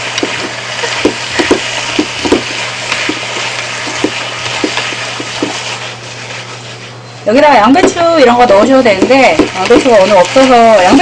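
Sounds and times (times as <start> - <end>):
food sizzling in a frying pan: 0.0 - 11.0
utensils scraping a pan: 0.0 - 11.0.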